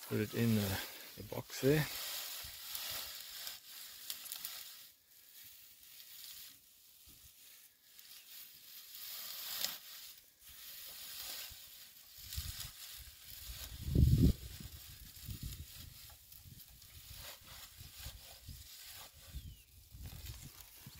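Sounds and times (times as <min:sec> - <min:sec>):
hay rustling: 0:00.0 - 0:20.9.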